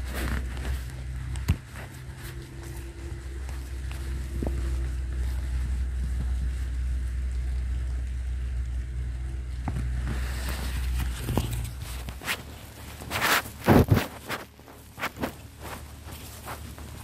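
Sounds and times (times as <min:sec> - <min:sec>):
footsteps on grass: 0:00.0 - 0:17.0
low rumble: 0:00.0 - 0:17.0
rustling hiss: 0:00.0 - 0:17.0.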